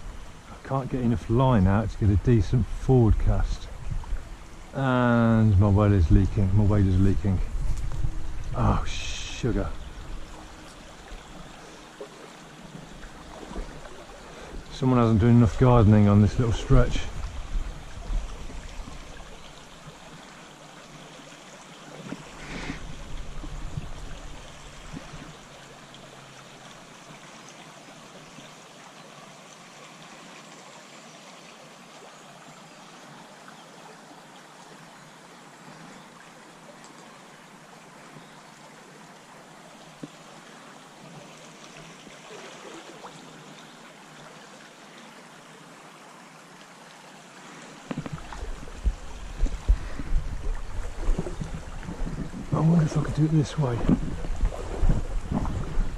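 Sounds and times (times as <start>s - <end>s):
stream running over stones: 0.0s - 55.9s.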